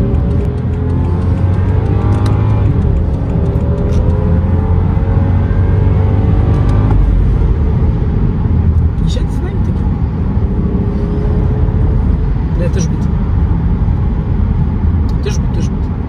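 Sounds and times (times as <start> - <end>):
car engine accelerating: 0.0 - 16.0
road noise rumble: 0.0 - 16.0.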